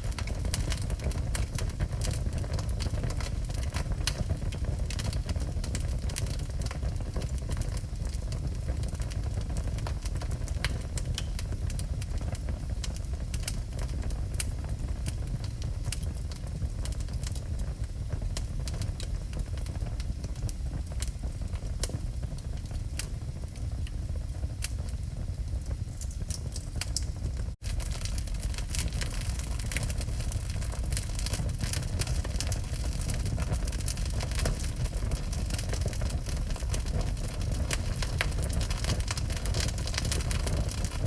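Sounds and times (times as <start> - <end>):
crackles and pops of burning logs: 0.0 - 41.0
wood fire rumbling: 0.0 - 41.0.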